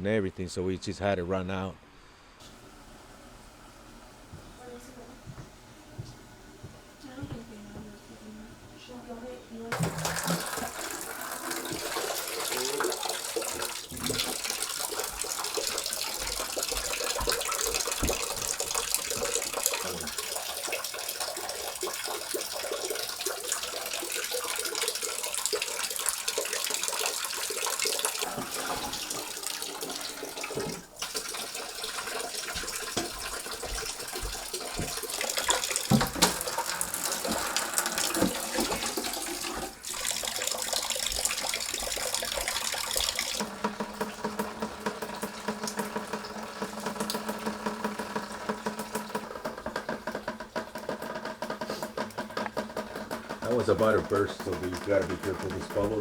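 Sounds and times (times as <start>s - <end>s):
rainwater splashing into bucket: 9.7s - 56.0s.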